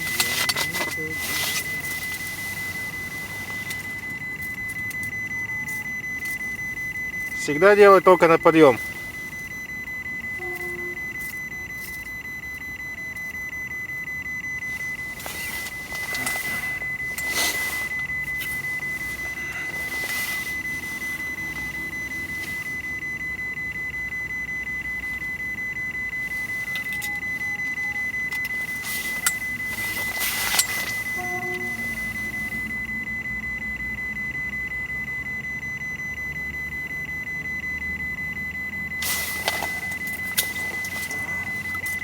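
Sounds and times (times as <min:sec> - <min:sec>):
high-pitched electronic whine: 0:00.0 - 0:42.0
low background hum: 0:00.0 - 0:42.0.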